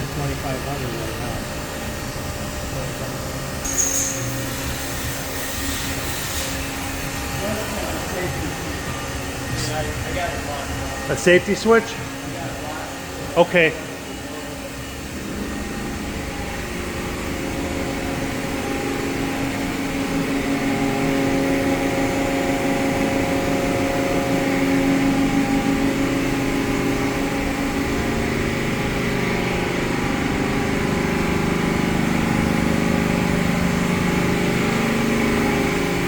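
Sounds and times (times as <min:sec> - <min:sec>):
lathe spindle humming: 0:00.0 - 0:36.0.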